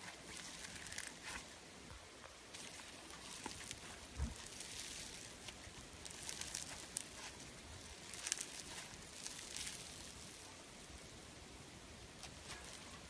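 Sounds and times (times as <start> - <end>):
slime crackling and popping: 0.0 - 1.5, 2.5 - 11.2, 12.1 - 13.0.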